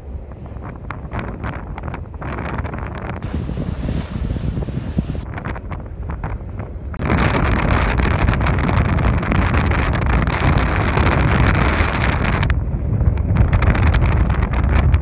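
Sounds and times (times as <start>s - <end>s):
low boat rumble: 0.0s - 15.0s
wind buffeting microphone: 0.0s - 15.0s.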